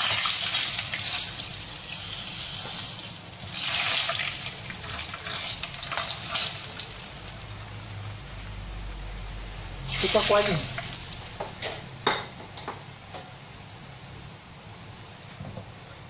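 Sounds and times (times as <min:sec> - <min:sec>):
oil sizzling in a frying pan: 0:00.0 - 0:15.8.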